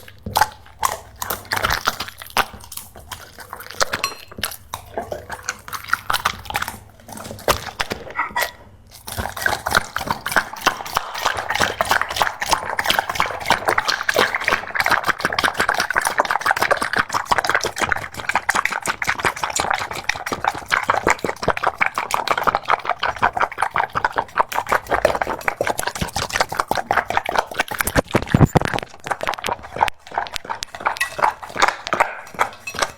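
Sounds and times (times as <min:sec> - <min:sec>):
dog lapping water: 0:00.0 - 0:32.9.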